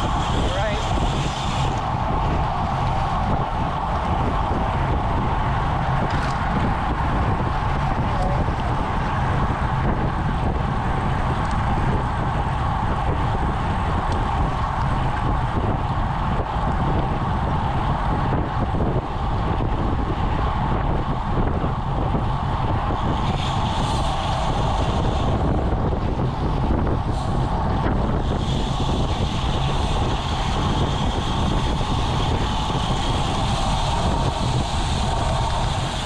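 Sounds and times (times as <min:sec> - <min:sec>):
tyre and road noise: 0:00.0 - 0:36.0
wind noise on microphone: 0:00.0 - 0:36.0.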